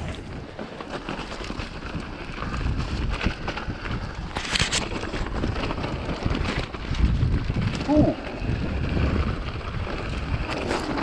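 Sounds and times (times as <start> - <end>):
bike tyres clattering over stones: 0.0 - 11.0
wind rumble on microphone: 0.0 - 11.0.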